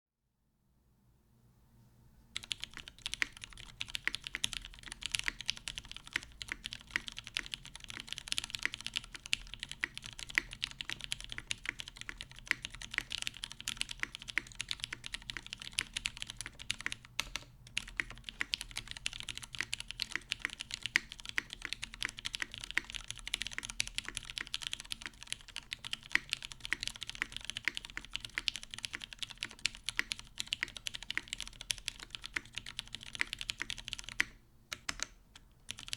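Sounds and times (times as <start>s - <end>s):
fast typing on mechanical keyboard: 2.4s - 35.9s.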